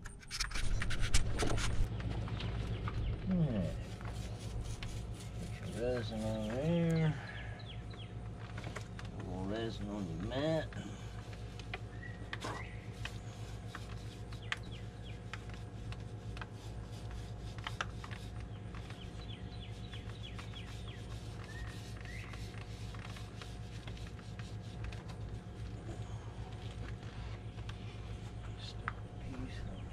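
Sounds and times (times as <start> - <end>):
steady low hum: 0.0 - 29.9
birds chirping: 1.8 - 29.9
brush scratching and dabbing: 3.4 - 7.2, 8.4 - 28.8.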